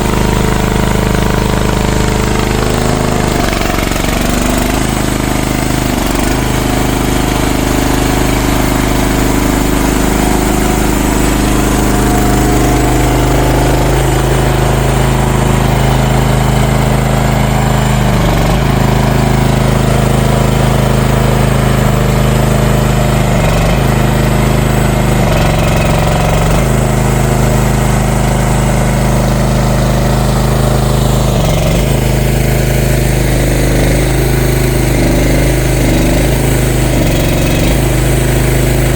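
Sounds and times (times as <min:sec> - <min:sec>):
excavator engine running: 0:00.0 - 0:38.9.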